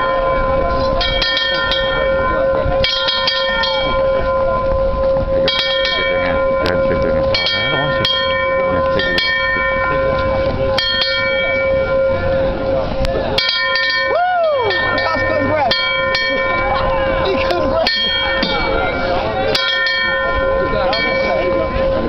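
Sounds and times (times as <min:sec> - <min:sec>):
bell clanging: 0:00.0 - 0:22.0
bell humming: 0:00.0 - 0:22.0.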